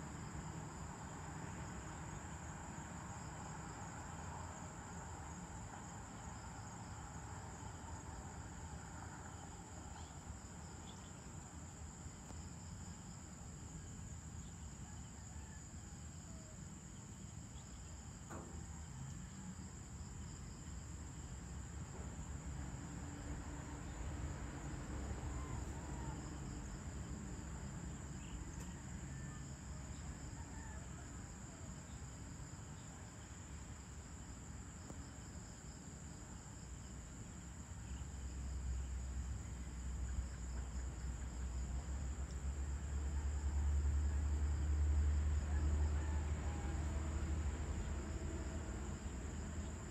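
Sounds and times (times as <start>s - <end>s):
crickets chirring: 0.0s - 49.9s
insects trilling: 0.1s - 46.1s.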